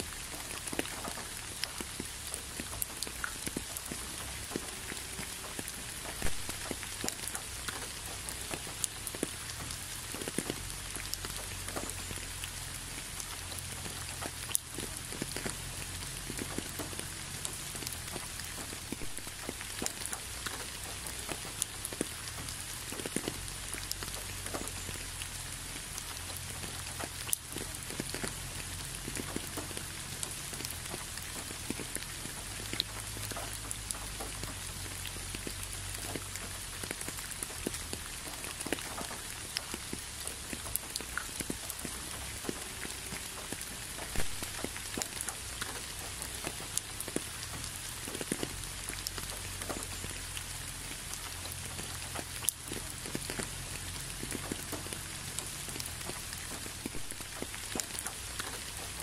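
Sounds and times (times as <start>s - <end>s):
raindrops landing close by: 0.0s - 59.0s
steady rain: 0.0s - 59.0s.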